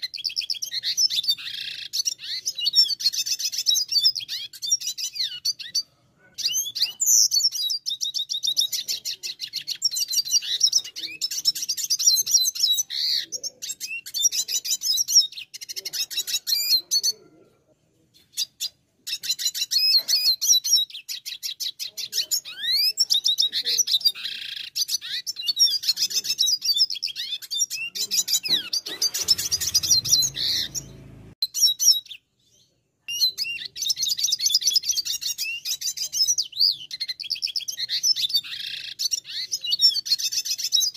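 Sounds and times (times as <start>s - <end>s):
bird singing twittering trills: 0.0s - 17.3s, 18.2s - 40.9s.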